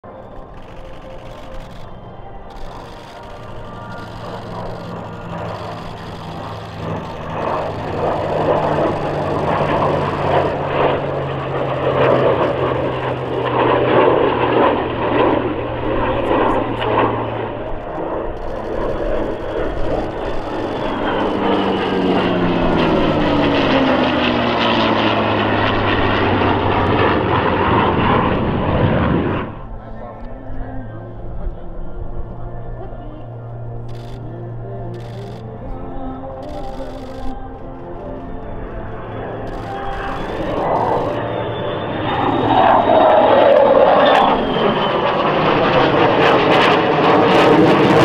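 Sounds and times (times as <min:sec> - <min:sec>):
jet engine flying past: 0:00.0 - 0:48.0
propeller aircraft engine flying past: 0:00.0 - 0:48.0.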